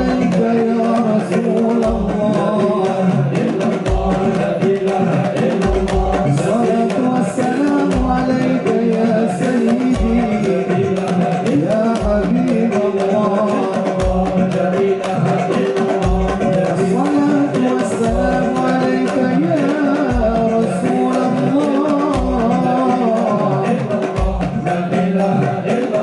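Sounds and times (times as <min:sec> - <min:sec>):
deep drum beat: 0:00.0 - 0:26.0
devotional singing: 0:00.0 - 0:26.0
quick hand-drum strikes: 0:00.0 - 0:26.0.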